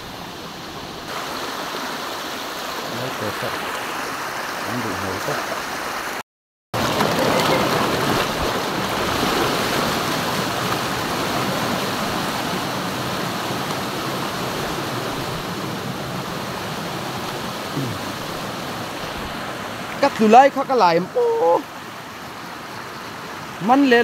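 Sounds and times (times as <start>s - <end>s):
river water rushing: 0.0s - 6.2s, 6.8s - 24.0s.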